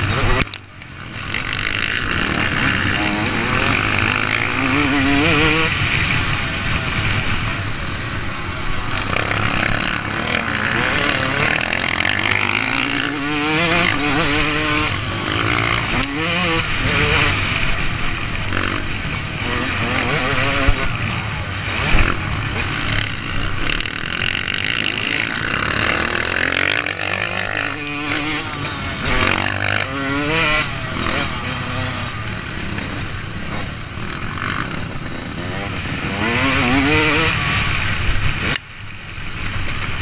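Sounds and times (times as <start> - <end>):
motocross bike engine revving: 0.0 - 40.0.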